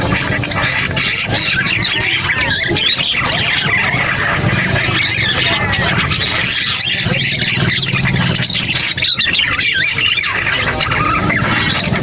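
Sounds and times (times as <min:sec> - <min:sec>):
mynas squawking and chattering: 0:00.0 - 0:12.0.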